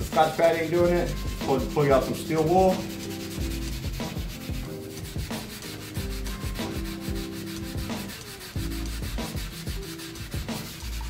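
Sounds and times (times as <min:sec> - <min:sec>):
steel wool scrubbing metal: 0:00.1 - 0:11.0.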